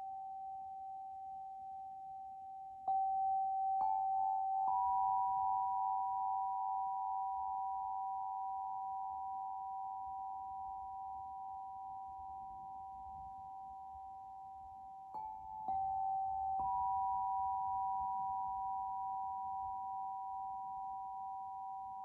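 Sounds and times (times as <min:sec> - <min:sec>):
tuning forks ringing: 0:00.0 - 0:22.0.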